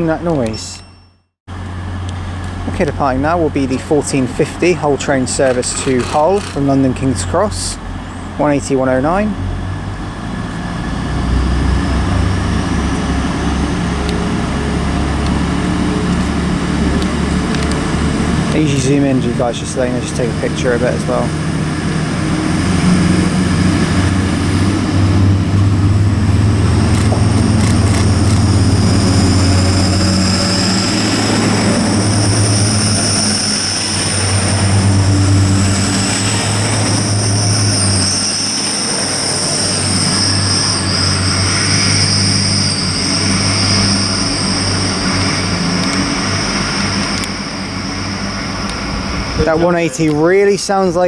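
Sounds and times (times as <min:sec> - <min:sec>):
high rising whine: 0:00.0 - 0:51.0
train diesel engine drone: 0:00.0 - 0:51.0.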